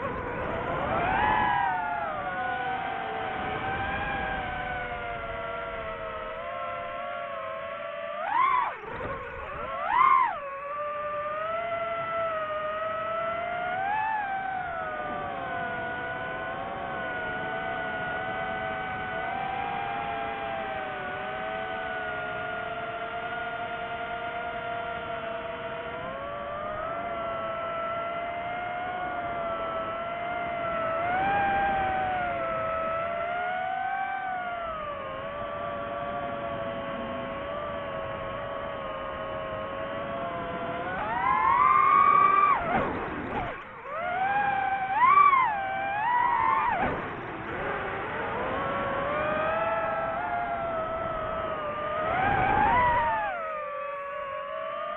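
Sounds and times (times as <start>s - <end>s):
drone propellers whining: 0.0s - 54.9s.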